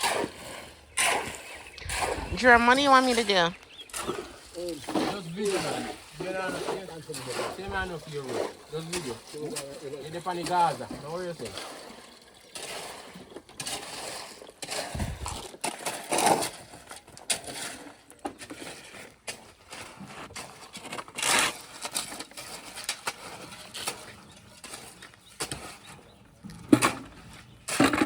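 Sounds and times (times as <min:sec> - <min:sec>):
scraping mortar and concrete blocks: 0:00.0 - 0:28.0.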